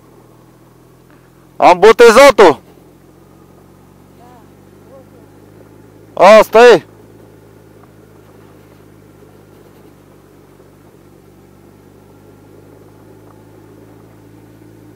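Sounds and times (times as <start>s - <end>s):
motorcycle engine humming: 0.0s - 14.9s.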